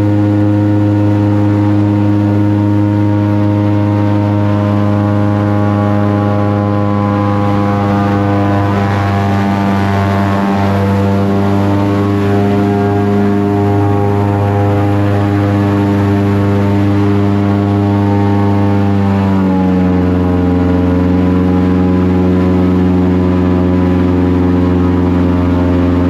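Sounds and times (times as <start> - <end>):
airboat engine and propeller droning: 0.0 - 26.0.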